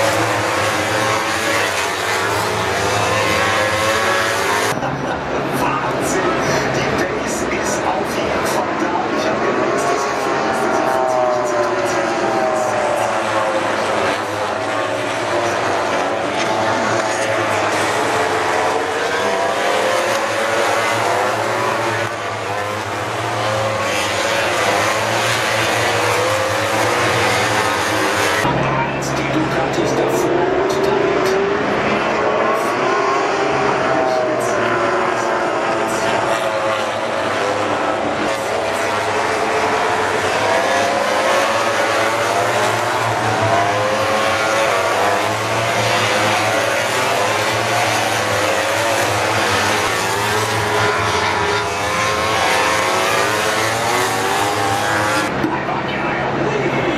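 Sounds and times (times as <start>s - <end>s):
racing motorcycles passing: 0.0s - 56.9s.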